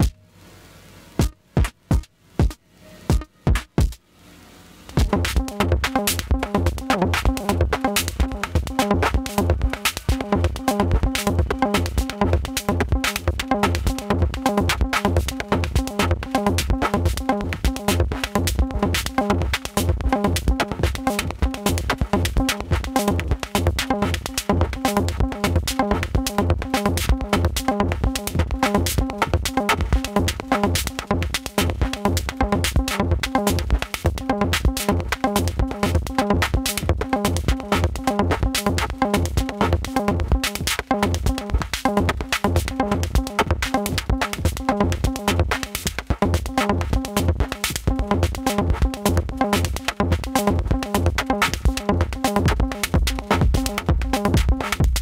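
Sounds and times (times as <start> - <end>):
drum machine beat: 1.2 - 4.0, 4.9 - 55.0.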